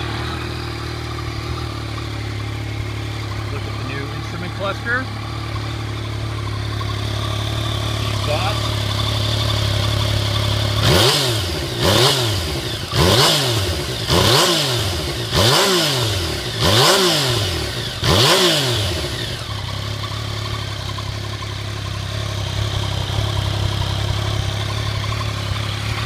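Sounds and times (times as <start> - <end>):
motorcycle engine idling: 0.0 - 26.0
motorcycle engine revving: 0.0 - 26.0.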